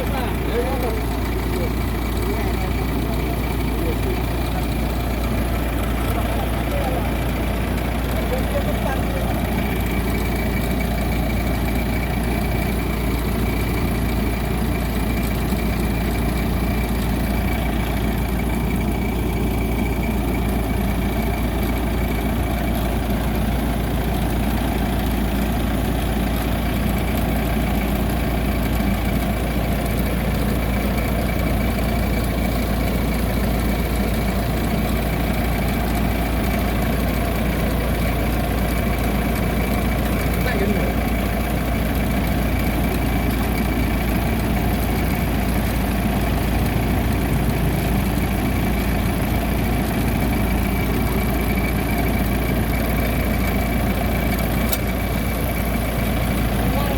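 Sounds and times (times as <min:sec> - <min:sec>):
combine harvester engine hum: 0:00.0 - 0:56.9.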